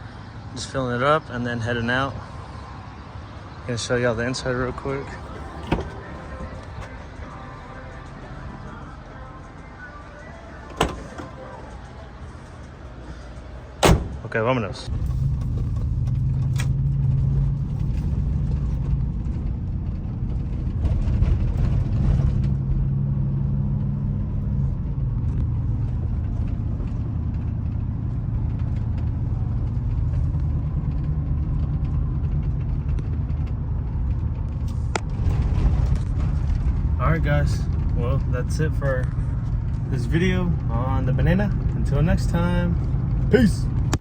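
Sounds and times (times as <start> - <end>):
pickup engine and road noise: 0.0 - 44.0.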